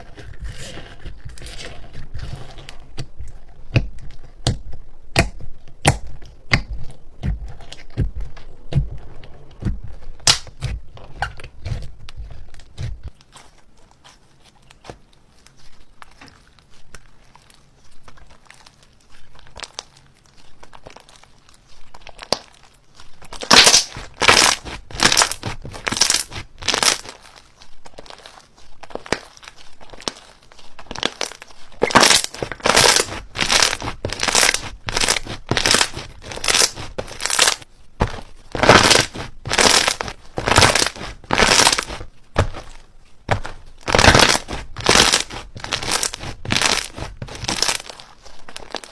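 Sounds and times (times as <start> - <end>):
slime crackling and crinkling: 0.0 - 48.9.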